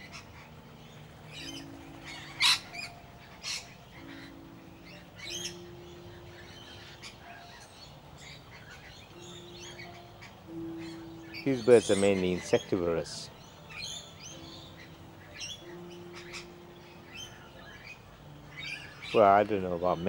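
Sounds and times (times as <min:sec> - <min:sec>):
birds chirping and squawking: 0:00.0 - 0:20.0.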